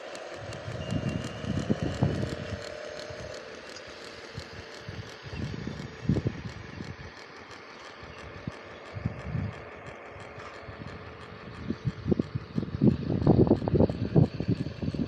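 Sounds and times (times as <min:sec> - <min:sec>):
model truck motor whine: 0:00.0 - 0:15.0
low rumbles and thumps: 0:00.4 - 0:03.4, 0:04.3 - 0:07.1, 0:08.1 - 0:15.0.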